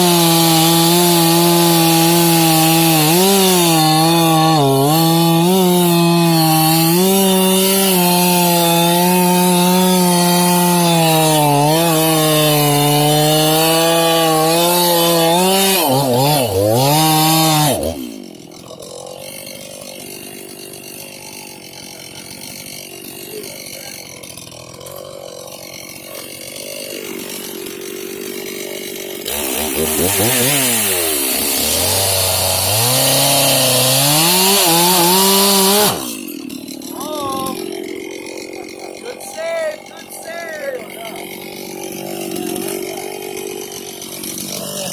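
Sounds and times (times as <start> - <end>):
chainsaw cutting wood: 0.0 - 44.9
chainsaw idling: 0.0 - 44.9.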